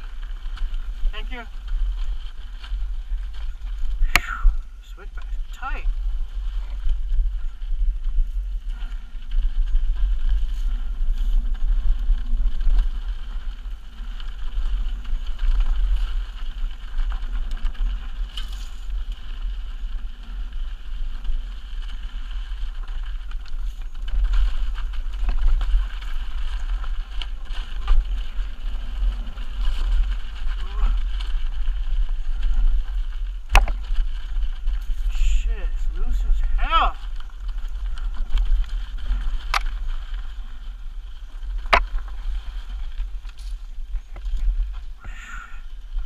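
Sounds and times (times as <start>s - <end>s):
bike rattling: 0.0s - 46.0s
tyres crunching over gravel: 0.0s - 46.0s
wind buffeting microphone: 0.0s - 46.0s.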